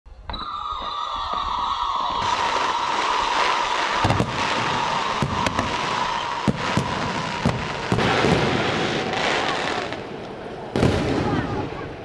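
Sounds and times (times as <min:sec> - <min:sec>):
firework shells bursting: 0:00.3 - 0:11.2
dense firework crackle: 0:00.4 - 0:12.0.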